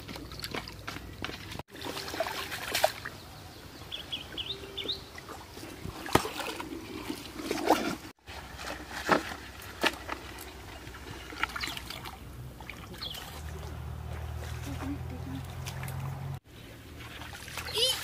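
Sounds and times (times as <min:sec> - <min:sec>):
water splashing and dripping: 0:00.0 - 0:03.3, 0:04.8 - 0:18.0.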